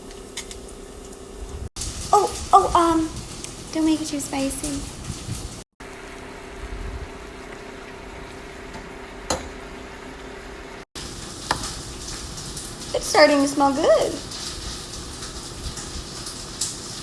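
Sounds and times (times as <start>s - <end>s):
noodles sizzling in a pan: 0.0s - 17.0s.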